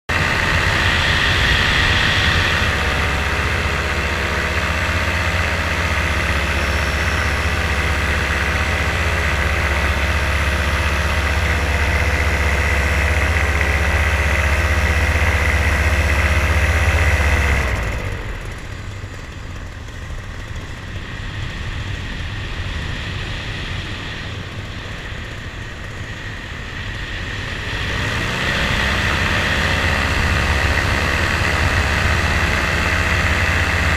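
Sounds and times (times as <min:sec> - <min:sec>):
aircraft motors and propellers humming: 0:00.1 - 0:33.9.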